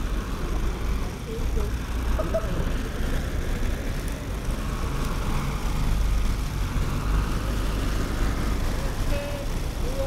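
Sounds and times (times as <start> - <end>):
engine hum: 0.0 - 10.0
low rumble of cars: 0.0 - 10.0.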